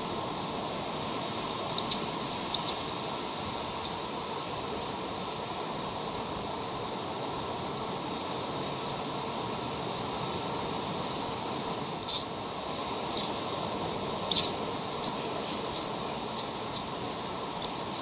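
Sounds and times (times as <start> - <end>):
steady microphone hiss: 0.0 - 18.0.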